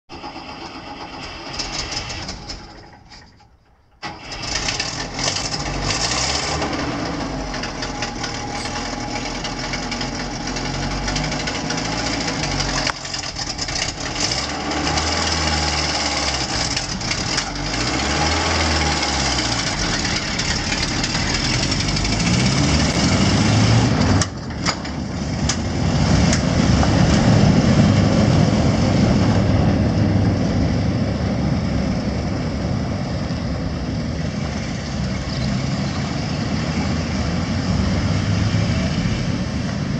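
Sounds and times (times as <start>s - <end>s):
tracked vehicle engine running: 0.1s - 39.9s.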